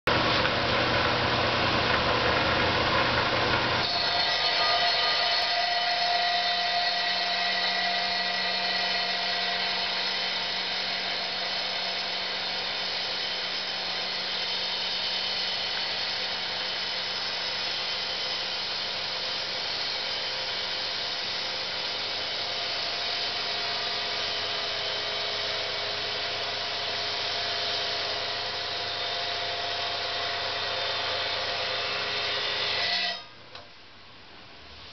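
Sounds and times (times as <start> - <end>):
steady motor hum: 0.1 - 33.2
saw grinding through stone: 3.7 - 33.3.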